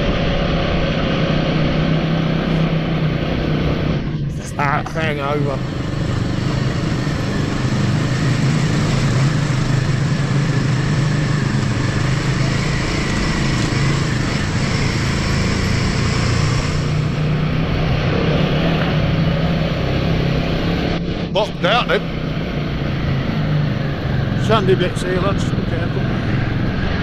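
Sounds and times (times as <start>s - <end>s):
motorcycle engine running: 1.6s - 27.0s.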